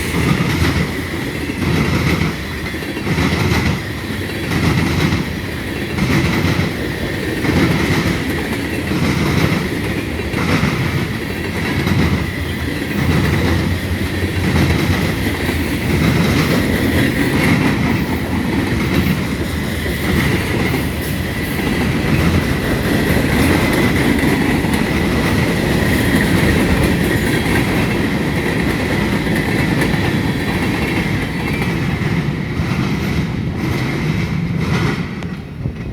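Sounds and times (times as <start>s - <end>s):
train rumble: 0.0s - 35.9s
wheels clacking over rail joints: 0.0s - 35.9s.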